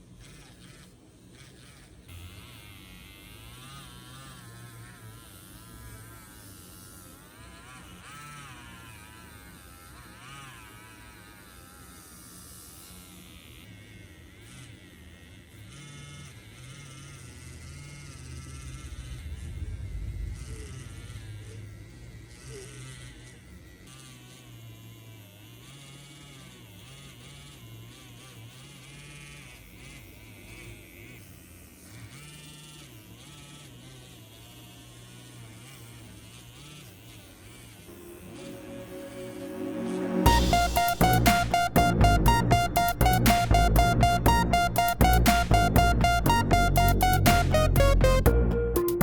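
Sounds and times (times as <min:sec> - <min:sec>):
small engine running: 0:00.0 - 0:48.3.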